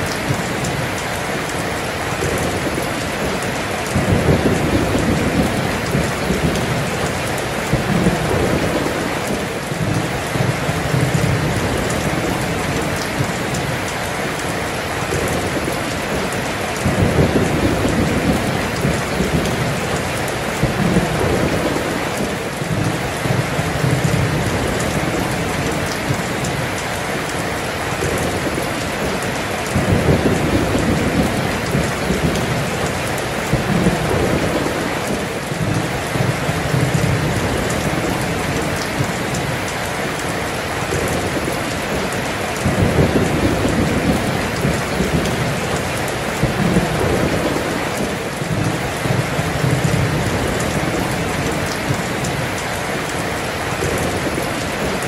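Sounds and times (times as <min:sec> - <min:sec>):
heavy rain pouring: 0:00.0 - 0:55.0
low thunder rolling: 0:02.2 - 0:13.8, 0:15.0 - 0:26.6, 0:28.0 - 0:39.6, 0:40.8 - 0:52.4.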